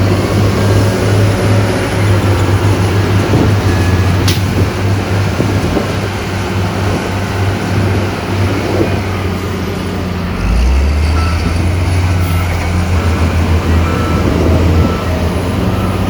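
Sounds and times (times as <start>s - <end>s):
heavy diesel machinery droning: 0.0s - 16.0s.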